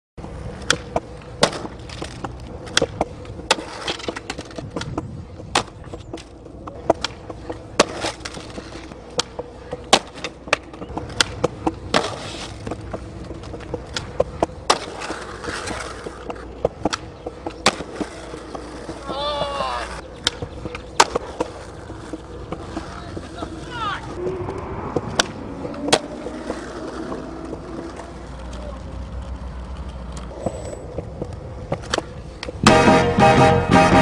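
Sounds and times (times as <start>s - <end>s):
skateboard clacks: 0.2s - 34.0s
skateboard wheels rolling on concrete: 0.2s - 34.0s.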